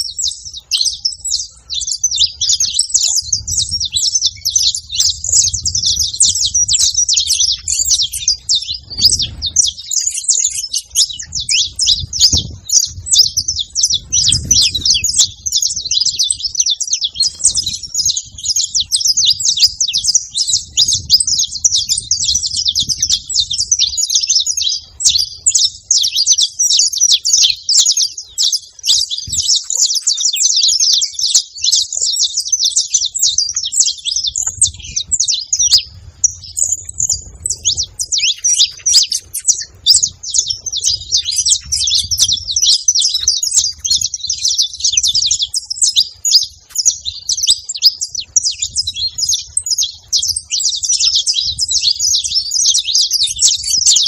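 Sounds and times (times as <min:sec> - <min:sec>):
finches chirping and singing: 0:00.0 - 0:54.0.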